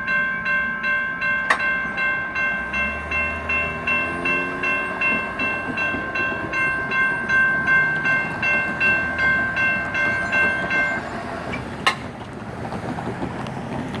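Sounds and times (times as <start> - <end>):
railroad crossing bells dinging: 0.0 - 14.0.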